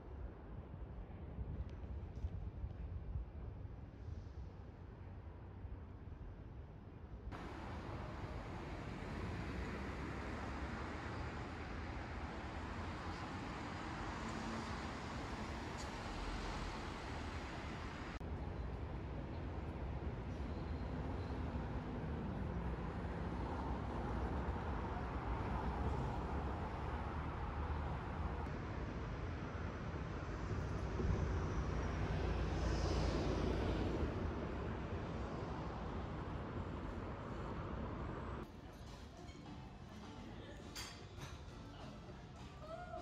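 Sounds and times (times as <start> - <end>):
low rumble of road traffic: 0.0 - 43.0.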